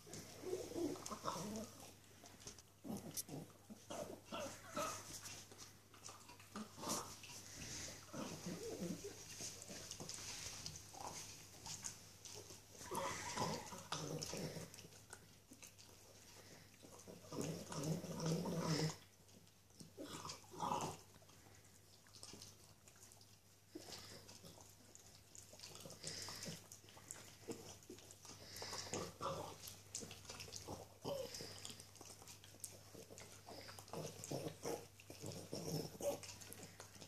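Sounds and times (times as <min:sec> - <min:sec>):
dog chewing a bone: 0:00.0 - 0:37.0.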